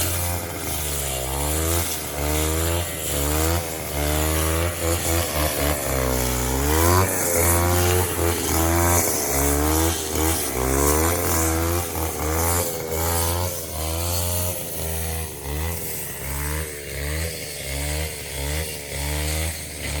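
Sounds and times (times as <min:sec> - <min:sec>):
brush cutter engine revving: 0:00.0 - 0:20.0.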